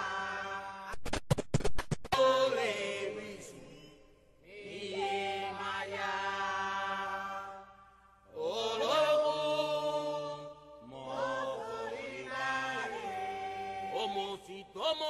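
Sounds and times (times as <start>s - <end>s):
person chanting a song: 0.0s - 0.9s, 2.2s - 3.8s, 4.5s - 7.7s, 8.3s - 15.0s.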